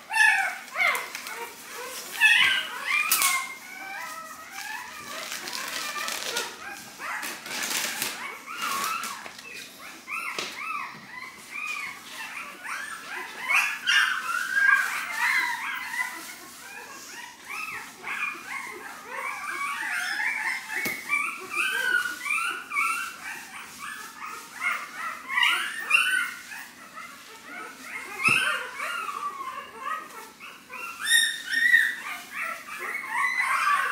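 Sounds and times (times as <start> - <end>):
puppies whining and squealing: 0.0 - 33.9.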